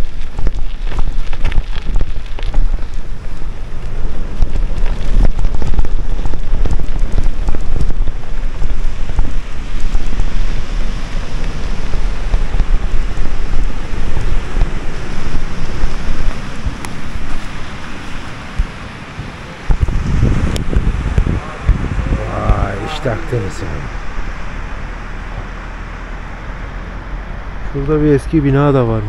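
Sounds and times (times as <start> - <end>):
wind buffeting microphone: 0.0 - 28.4
low rumble of bicycle riding: 0.0 - 29.0.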